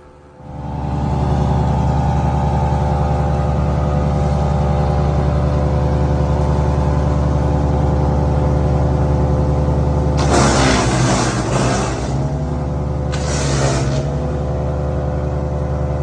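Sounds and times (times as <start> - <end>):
wood chipper engine running: 0.0 - 16.0.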